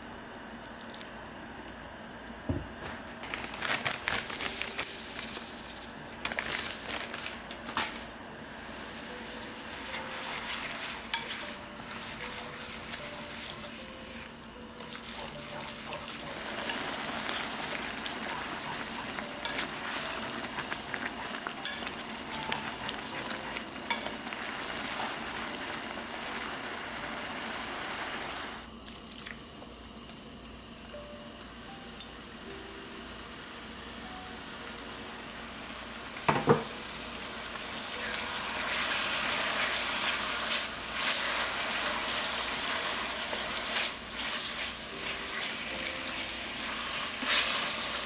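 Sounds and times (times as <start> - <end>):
noodles sizzling in a pan: 2.8 - 28.8, 33.1 - 48.0.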